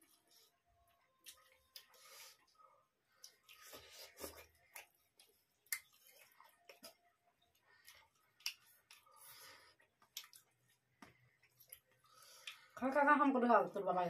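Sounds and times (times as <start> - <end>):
chewing and mouth noises: 0.2 - 12.8.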